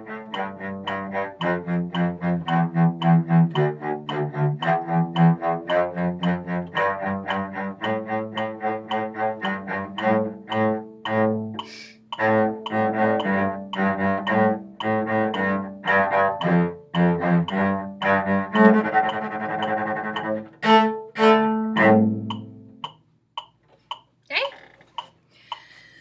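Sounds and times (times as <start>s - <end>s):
solo cello playing a march: 0.0s - 23.0s.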